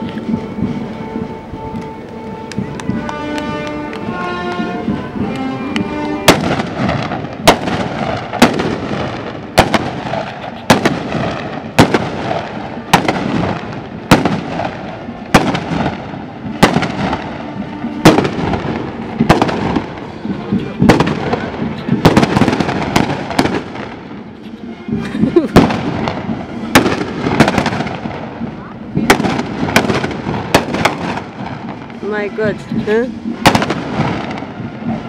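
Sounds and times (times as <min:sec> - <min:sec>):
gunshots with echo: 0:02.6 - 0:24.2, 0:25.6 - 0:28.4, 0:29.0 - 0:35.0.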